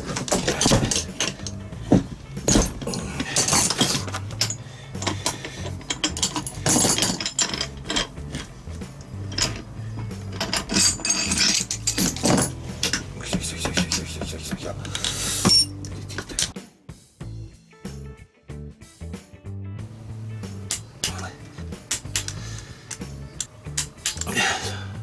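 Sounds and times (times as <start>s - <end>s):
metal tools clicking and scraping: 0.0s - 16.6s, 19.9s - 25.0s
background music: 0.0s - 25.0s.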